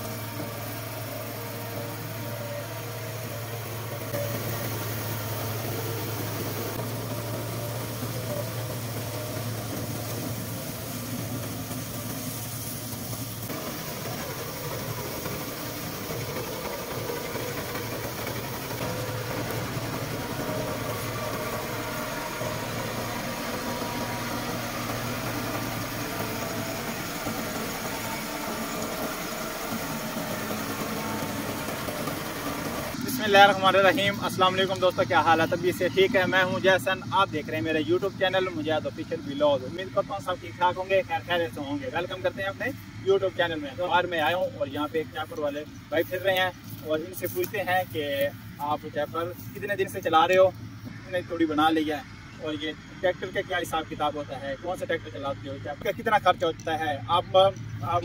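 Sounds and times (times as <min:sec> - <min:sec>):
straw chopper-blower: 0:00.0 - 0:58.0
tractor diesel engine running: 0:00.0 - 0:58.0.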